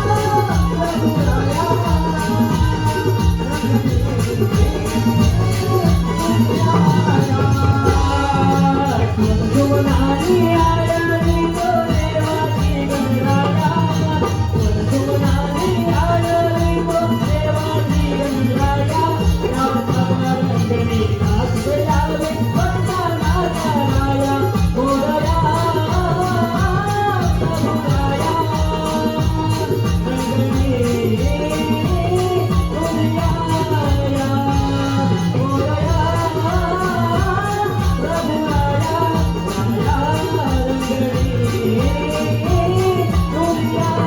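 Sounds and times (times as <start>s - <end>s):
devotional folk melody: 0.0s - 44.0s
jingling percussion: 0.0s - 44.0s
person singing verses: 0.0s - 44.0s
steady drum beat: 0.0s - 44.0s.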